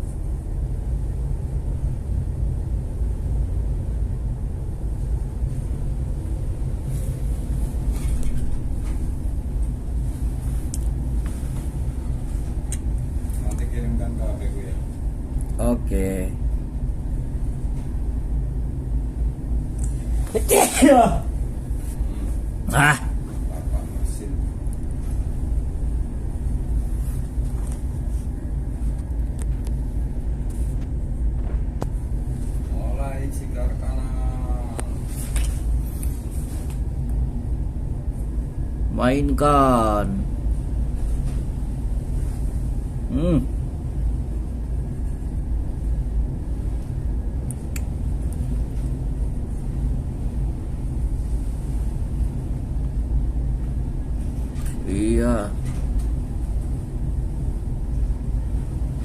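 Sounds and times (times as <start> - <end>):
ship engine low rumble: 0.0 - 59.0.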